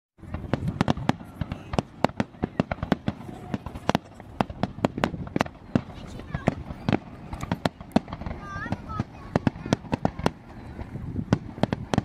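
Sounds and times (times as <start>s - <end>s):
fireworks bangs: 0.2s - 12.0s.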